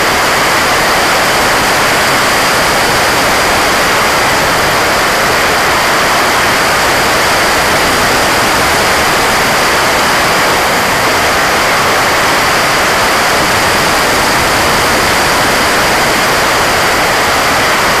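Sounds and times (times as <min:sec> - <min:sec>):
drone propeller and airflow rush: 0:00.0 - 0:18.0
faint high whine: 0:00.0 - 0:18.0.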